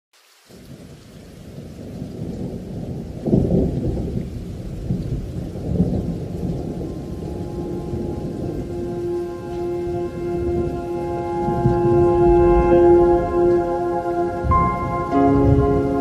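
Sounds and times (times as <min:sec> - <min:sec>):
rumbling thunder: 0:00.5 - 0:16.0.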